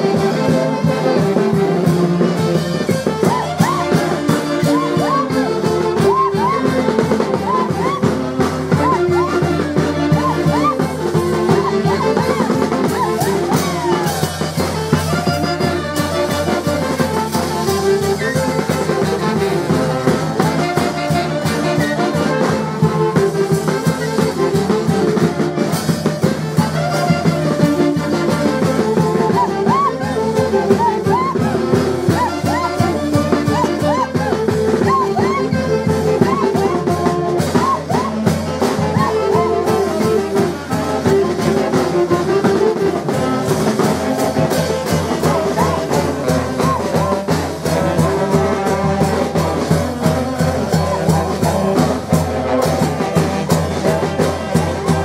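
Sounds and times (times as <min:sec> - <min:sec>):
brass band playing dance tune: 0:00.0 - 0:55.0
snare drum: 0:00.0 - 0:55.0.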